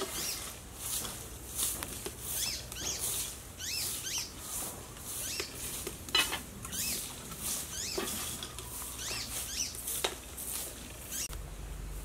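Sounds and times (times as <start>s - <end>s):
small birds chirping: 0.0s - 0.6s, 2.2s - 11.4s.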